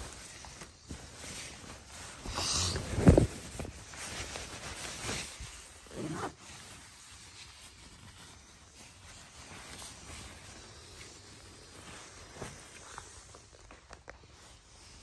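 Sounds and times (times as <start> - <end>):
nylon jacket rustling: 0.0 - 15.0.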